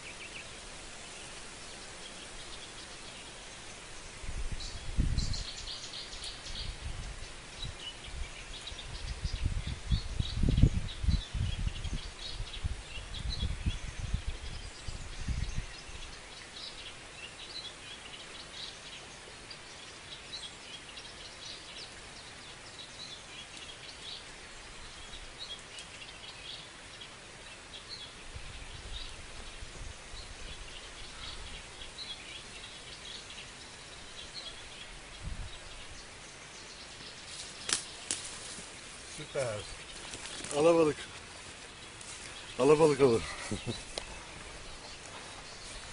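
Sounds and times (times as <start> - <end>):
small birds chirping and singing: 0.0 - 45.9.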